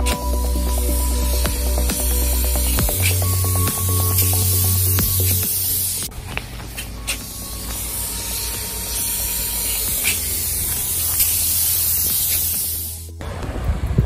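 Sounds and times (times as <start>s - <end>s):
loud hiss: 0.0s - 13.2s
low hum: 0.0s - 14.0s.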